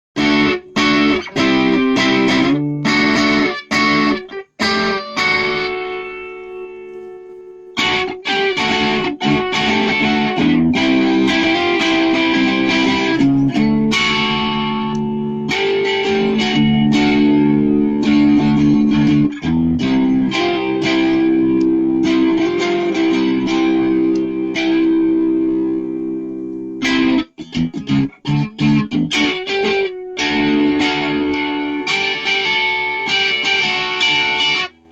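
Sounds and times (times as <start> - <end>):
electric guitar through amplifier: 0.2 - 34.9.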